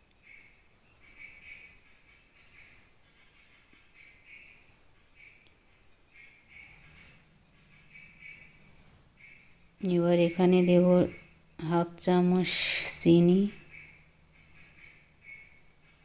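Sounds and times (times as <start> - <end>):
bird chirping: 0.0 - 16.0
bird trill: 0.2 - 12.5, 13.1 - 16.0.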